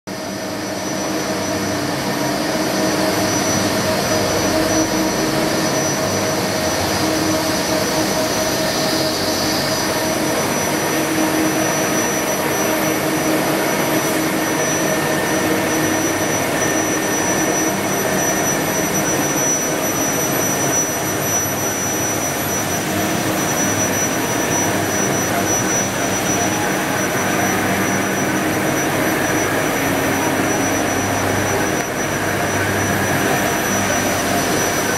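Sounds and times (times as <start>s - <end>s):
high constant whine: 0.1s - 34.9s.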